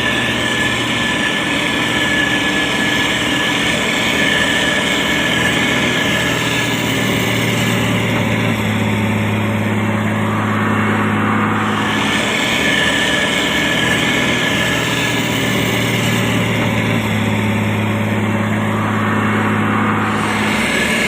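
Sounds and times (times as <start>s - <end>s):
diesel grader engine running: 0.0s - 21.0s
steady tone: 0.0s - 21.0s.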